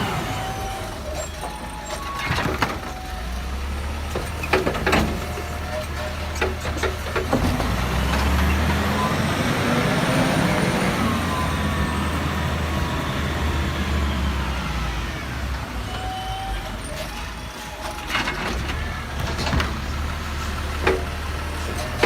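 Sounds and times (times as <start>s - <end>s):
garbage truck engine running: 0.0s - 22.0s.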